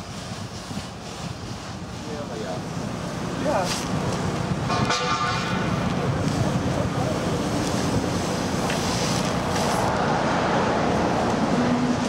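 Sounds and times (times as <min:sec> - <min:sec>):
outdoor street noise: 0:00.0 - 0:12.0
wind buffeting microphone: 0:00.0 - 0:12.0.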